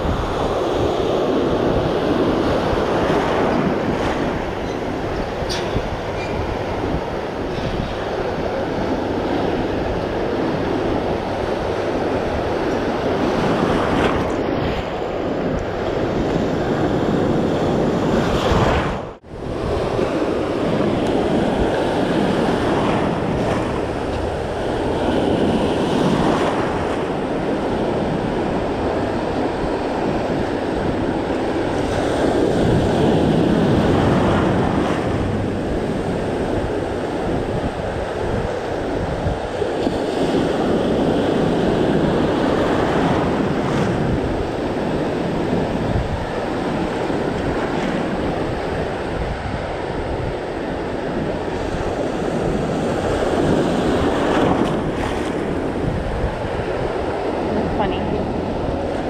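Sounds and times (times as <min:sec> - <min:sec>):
ocean surf breaking: 0:00.0 - 0:59.0
wind buffeting microphone: 0:00.0 - 0:59.0.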